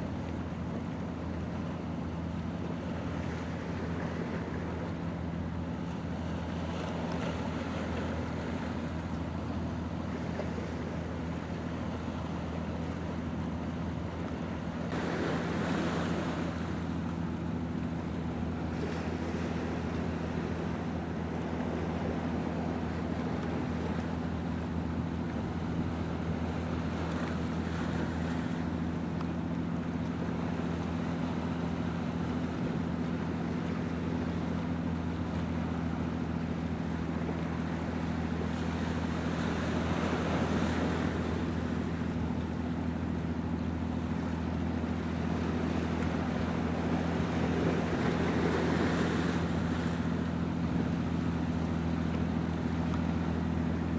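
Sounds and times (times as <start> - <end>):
ship engine droning: 0.0 - 53.9.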